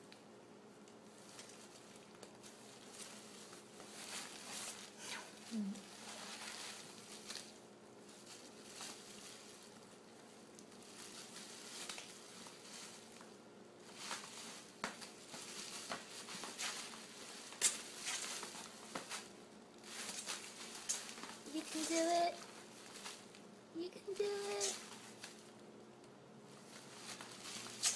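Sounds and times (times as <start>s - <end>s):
plastic bubble wrap crinkling: 1.1s - 25.6s, 26.5s - 27.9s.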